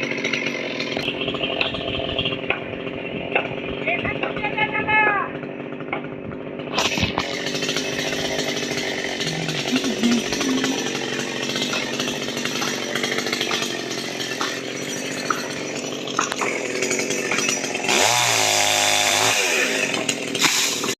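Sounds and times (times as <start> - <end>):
chainsaw cutting a tree: 0.0 - 21.0.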